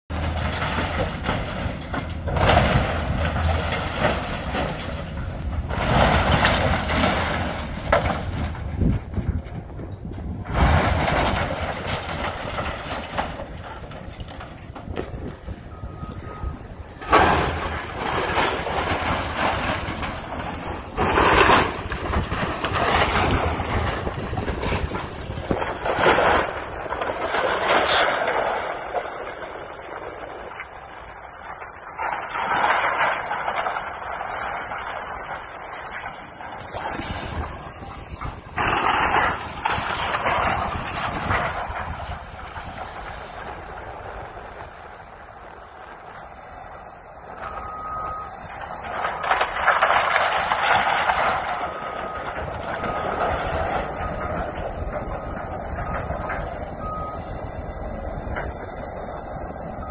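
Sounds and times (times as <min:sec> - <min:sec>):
heavy machine engine hum: 0:00.0 - 0:59.9
wooden timbers cracking and crashing: 0:00.0 - 0:59.9.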